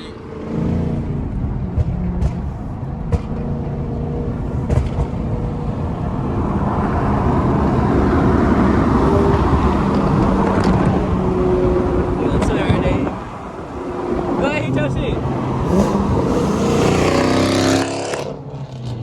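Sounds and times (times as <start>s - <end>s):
car engine and exhaust: 0.0s - 19.0s.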